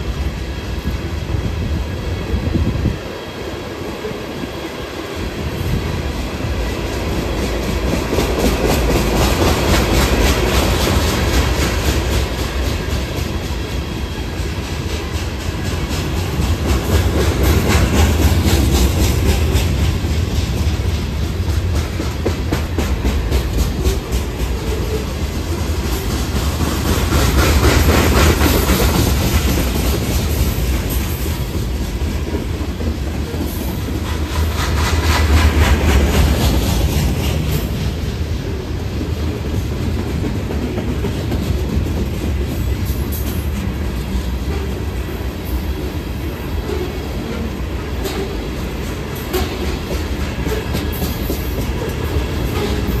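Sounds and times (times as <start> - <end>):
freight train rumble: 0.0 - 53.0
train wheels clicking over rail joints: 0.0 - 53.0.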